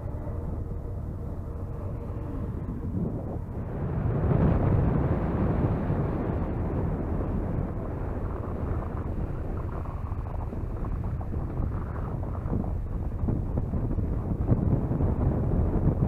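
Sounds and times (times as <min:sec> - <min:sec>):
low steady rumble: 0:00.0 - 0:16.0
wind buffeting microphone: 0:00.0 - 0:16.0.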